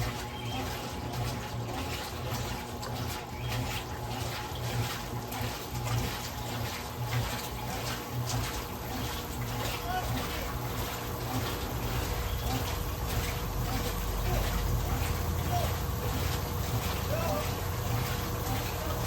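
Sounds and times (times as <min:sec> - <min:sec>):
motor hum: 0:00.0 - 0:19.0
washing machine agitator swishing water: 0:00.0 - 0:19.0.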